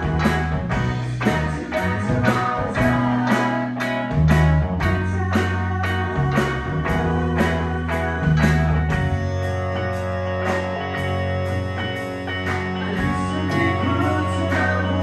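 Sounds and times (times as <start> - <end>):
electric guitar: 0.0 - 15.0
steady drum beat: 0.0 - 15.0
walking bass line: 0.0 - 15.0.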